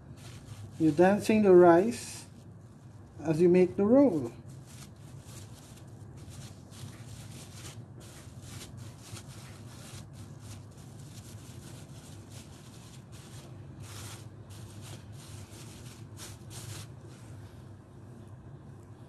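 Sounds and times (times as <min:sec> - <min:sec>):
hands rubbing rice on seaweed: 0:00.0 - 0:03.1, 0:04.1 - 0:17.5
low steady hum: 0:00.0 - 0:19.0.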